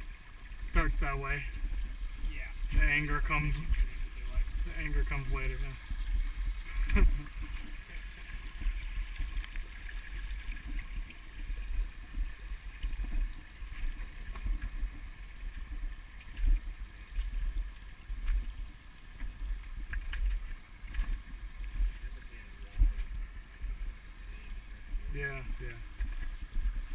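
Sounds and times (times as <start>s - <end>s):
stream trickling over rocks: 0.0s - 26.9s
wind rumble on microphone: 0.0s - 26.9s.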